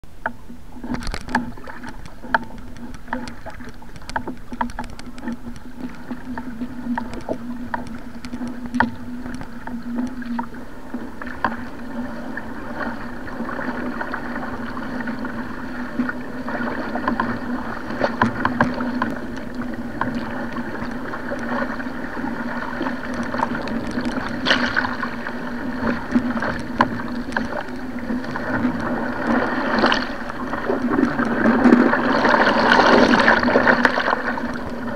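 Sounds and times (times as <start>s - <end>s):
steady low hum: 0.0s - 34.9s
water splashing and rushing: 0.0s - 34.9s
paddle slaps and splashes: 0.2s - 34.9s.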